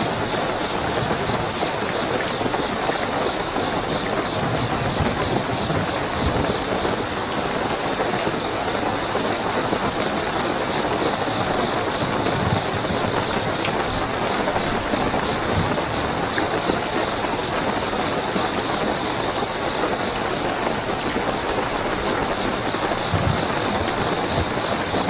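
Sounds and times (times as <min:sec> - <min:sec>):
crickets trilling: 0:00.0 - 0:25.0
heavy rainfall: 0:00.0 - 0:25.0.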